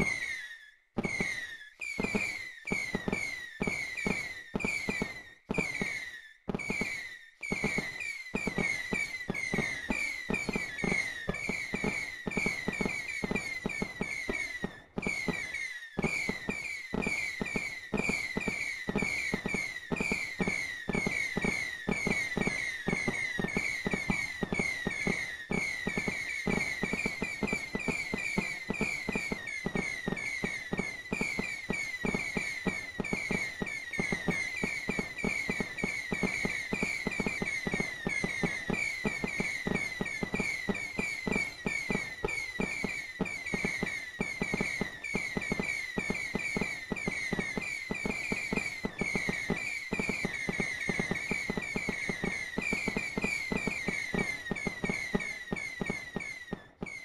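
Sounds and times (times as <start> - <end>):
fireworks crackling: 0.0 - 57.0
fireworks whistles: 0.0 - 57.0.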